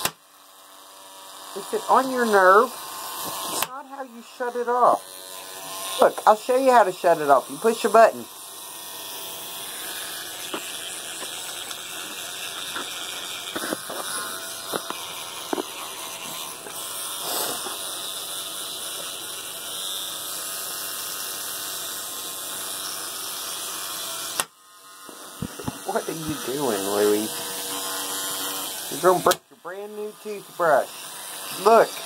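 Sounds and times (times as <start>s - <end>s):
electric toothbrush buzzing: 0.0s - 32.0s.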